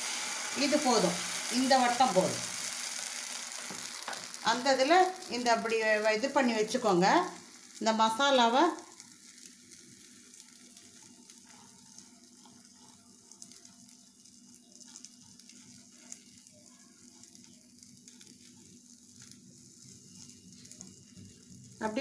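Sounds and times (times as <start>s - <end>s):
faint batter sizzling in pan: 0.0s - 22.0s.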